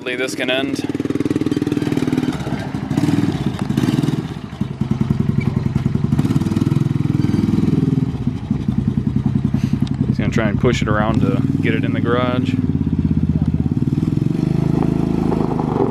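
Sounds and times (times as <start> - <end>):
vehicle engine at low revs: 0.0 - 15.9.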